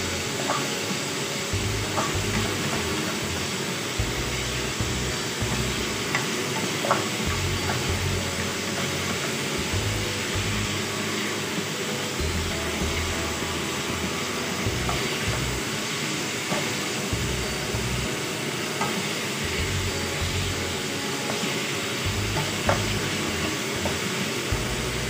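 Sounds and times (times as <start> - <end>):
meat sizzling in a wok: 0.0 - 25.0.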